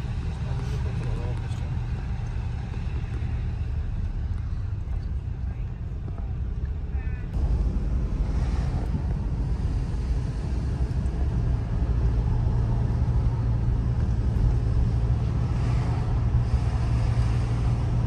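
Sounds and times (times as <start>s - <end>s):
car rumbling on road: 0.0s - 18.0s
low hum: 0.0s - 18.0s.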